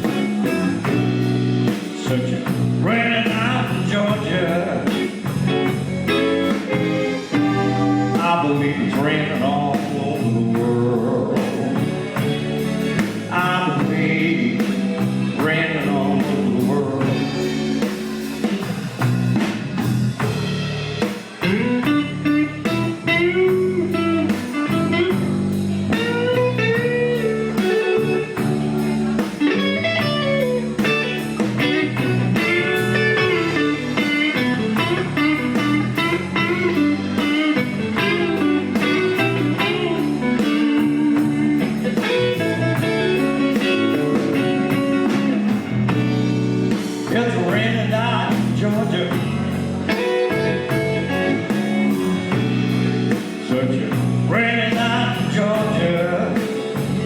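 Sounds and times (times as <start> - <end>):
bass: 0.0 - 57.0
blues guitar lead: 0.0 - 57.0
drums: 0.0 - 57.0.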